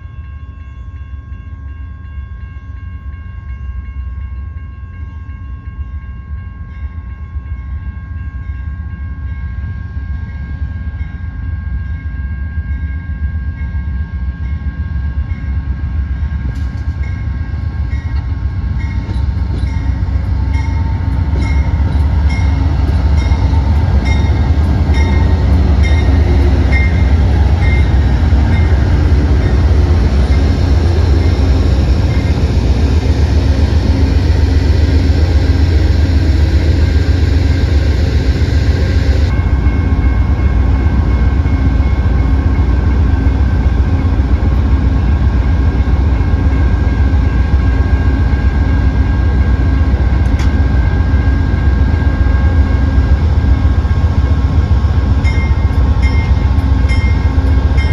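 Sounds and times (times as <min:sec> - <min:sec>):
train rumbling past: 0:01.3 - 0:57.9.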